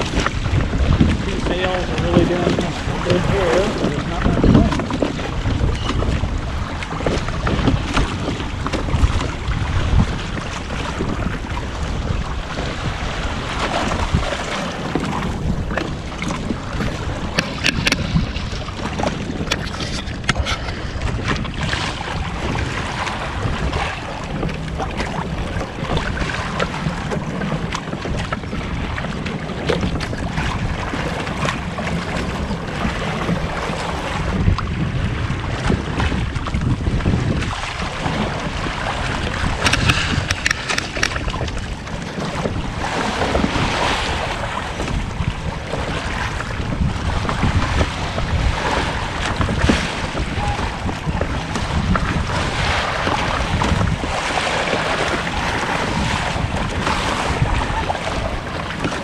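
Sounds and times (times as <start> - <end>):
water splashing along hull: 0.0 - 59.0
wind buffeting microphone: 0.0 - 59.0.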